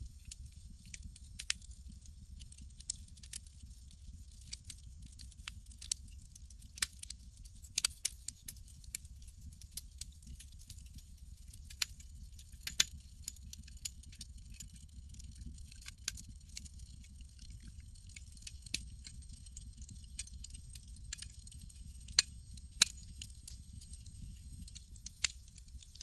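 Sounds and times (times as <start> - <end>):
low steady rumble: 0.0 - 6.8, 11.7 - 26.0
campfire crackling and popping: 0.1 - 26.0.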